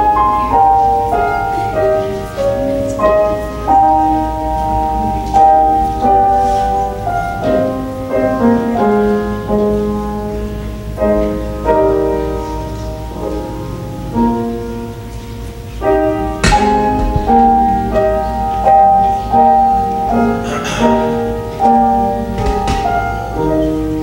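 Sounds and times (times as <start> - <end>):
slow instrumental keyboard music: 0.0 - 24.0.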